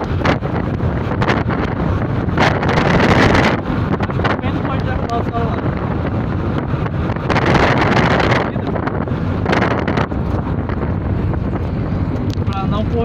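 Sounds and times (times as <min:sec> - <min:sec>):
car road and engine rumble: 0:00.0 - 0:13.0
wind buffeting microphone: 0:00.0 - 0:13.0.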